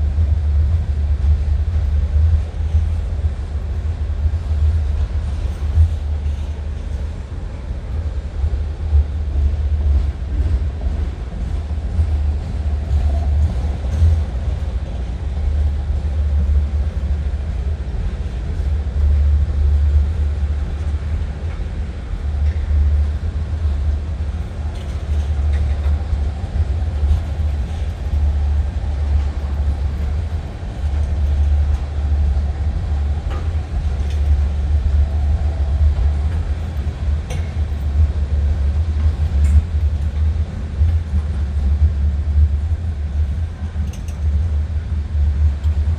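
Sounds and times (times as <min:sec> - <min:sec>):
train rolling past: 0:00.0 - 0:45.9.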